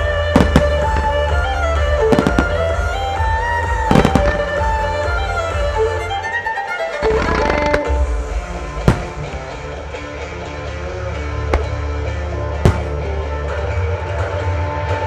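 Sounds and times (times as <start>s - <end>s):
fireworks bangs: 0.0s - 6.1s, 7.2s - 13.8s.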